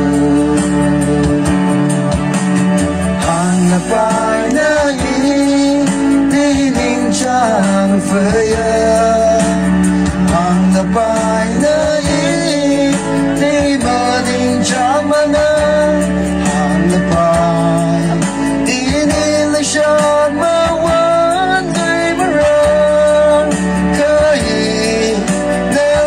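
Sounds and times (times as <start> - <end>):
instrumental music with steady beat: 0.0 - 26.0
man singing into a microphone: 0.0 - 26.0.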